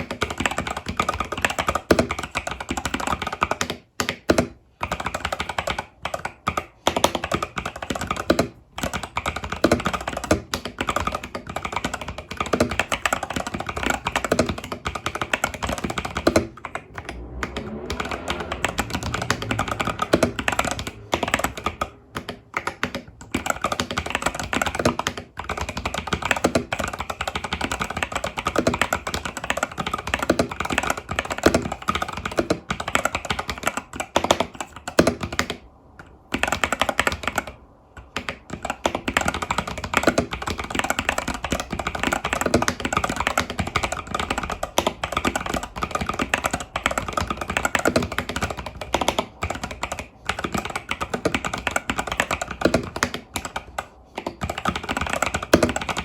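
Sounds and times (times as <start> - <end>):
mechanical keyboard typing: 0.0 - 16.9, 17.8 - 35.6, 36.3 - 56.0.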